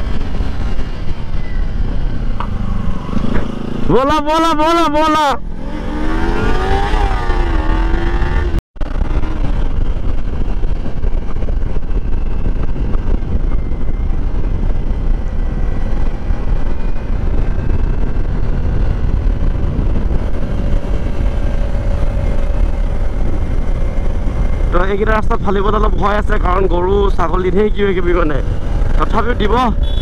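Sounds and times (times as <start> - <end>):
wind buffeting microphone: 0.0 - 4.0, 5.4 - 30.0
motorcycle engine running: 5.4 - 30.0.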